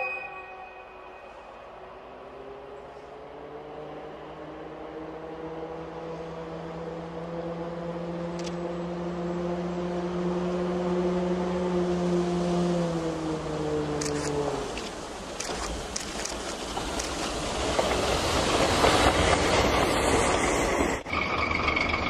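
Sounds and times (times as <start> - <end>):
diesel locomotive engine approaching: 0.0 - 22.0.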